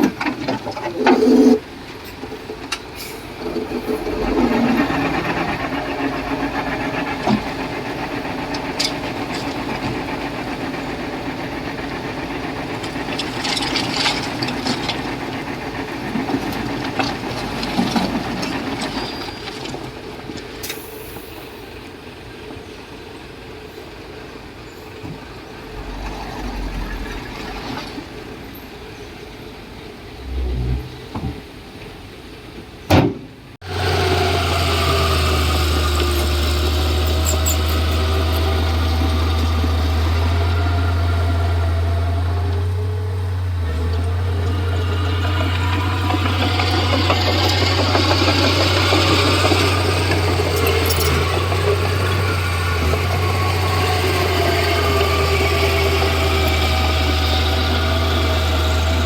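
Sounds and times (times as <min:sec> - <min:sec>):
steel tracks clanking and squealing: 0:00.0 - 0:22.2, 0:24.6 - 0:32.8, 0:33.6 - 0:59.0
bulldozer diesel engine running: 0:00.0 - 0:22.8, 0:24.5 - 0:32.4, 0:33.6 - 0:59.0.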